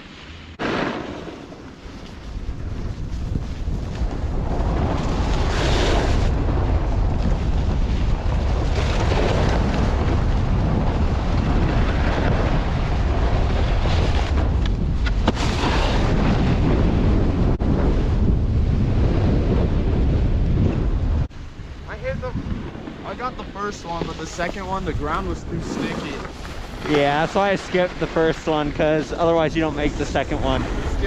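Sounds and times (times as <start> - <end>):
wind buffeting microphone: 1.6 - 31.0.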